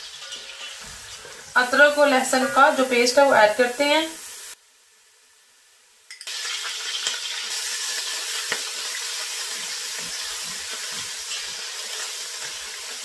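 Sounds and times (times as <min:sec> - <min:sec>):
paste sizzling in hot oil: 0:00.0 - 0:04.6, 0:06.2 - 0:13.0.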